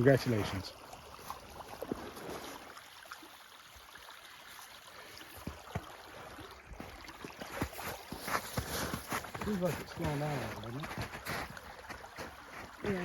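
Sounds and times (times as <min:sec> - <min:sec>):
water flowing down a channel: 0:00.0 - 0:13.0.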